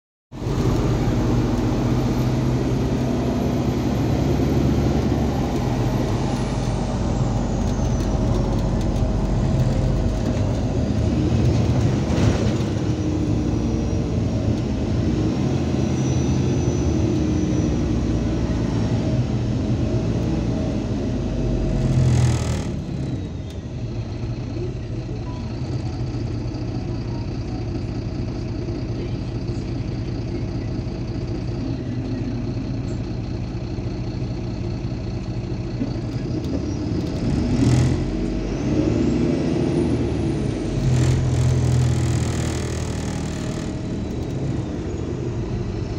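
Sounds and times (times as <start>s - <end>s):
bus engine and road noise: 0.3s - 45.9s.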